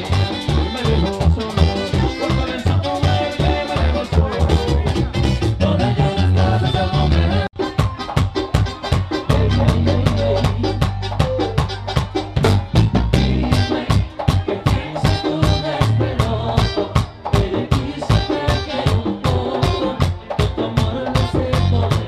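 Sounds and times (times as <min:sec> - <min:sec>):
band playing latin dance music: 0:00.0 - 0:22.0
heavy bass line: 0:00.0 - 0:22.0
quick percussion beat: 0:00.0 - 0:22.0.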